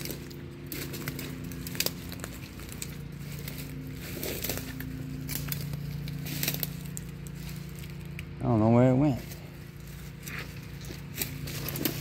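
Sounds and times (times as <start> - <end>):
footsteps crunching on dry leaves: 0.0 - 12.0
low hum: 0.0 - 12.0.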